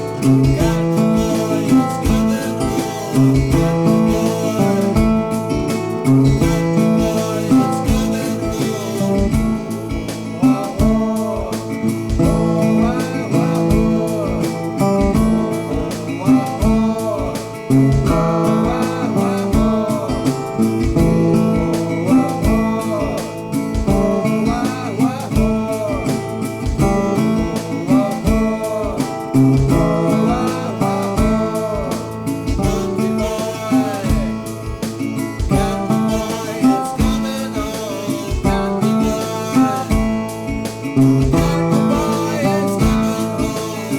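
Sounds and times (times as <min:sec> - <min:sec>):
acoustic guitar strumming: 0:00.0 - 0:43.9
person singing: 0:00.0 - 0:43.9.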